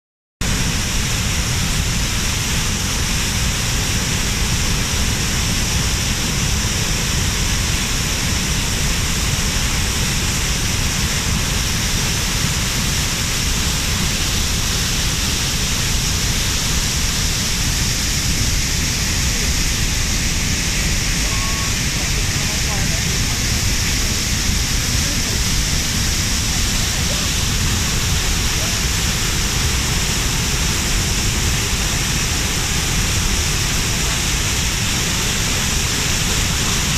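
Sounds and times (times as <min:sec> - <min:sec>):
waterfall rushing: 0:00.4 - 0:36.9.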